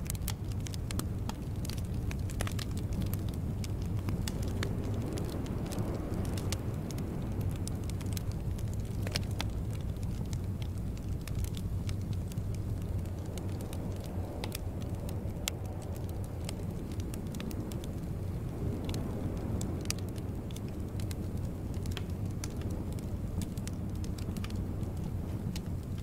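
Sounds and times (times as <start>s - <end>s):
fire popping and snapping: 0.0s - 26.0s
log fire crackling: 0.0s - 26.0s.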